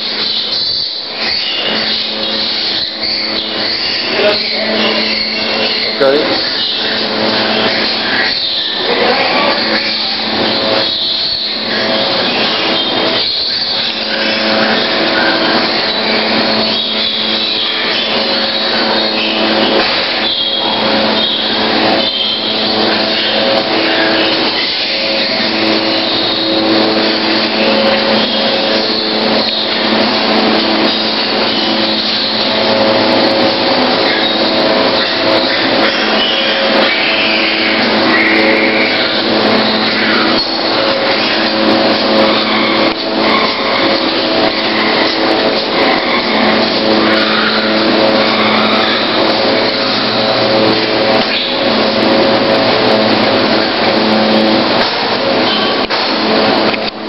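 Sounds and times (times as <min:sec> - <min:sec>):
piglets squealing: 0:00.0 - 0:56.8
sows grunting: 0:00.0 - 0:56.8
steady hum: 0:00.0 - 0:57.0
whooshing ventilation drone: 0:00.0 - 0:57.0.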